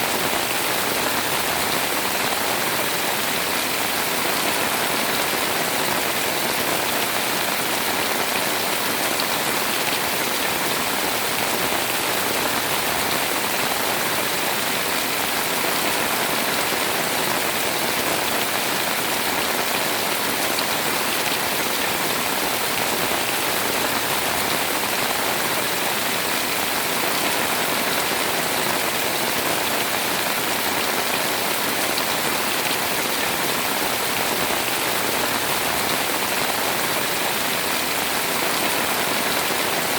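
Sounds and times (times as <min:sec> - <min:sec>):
heavy rain pouring on a house: 0:00.0 - 0:39.9.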